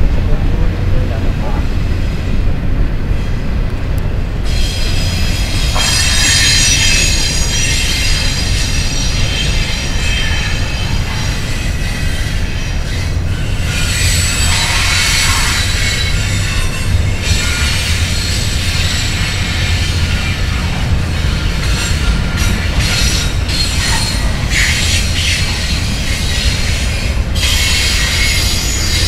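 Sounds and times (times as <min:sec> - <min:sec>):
freight train rumbling past: 0:00.0 - 0:29.0
train wheels squealing: 0:04.4 - 0:29.0.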